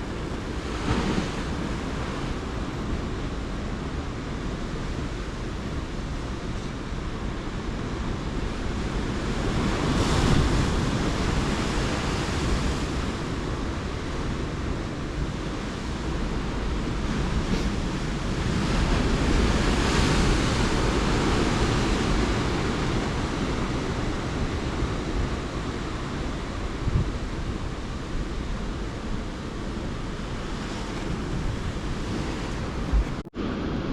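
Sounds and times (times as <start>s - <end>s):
surf on rocky coast: 0.0s - 33.9s
wind buffeting microphone: 0.0s - 33.9s.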